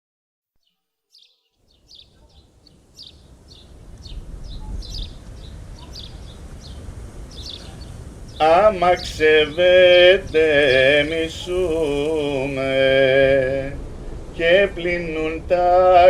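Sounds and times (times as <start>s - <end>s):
small birds chirping: 0.6s - 16.0s
low outdoor rumble: 2.0s - 16.0s.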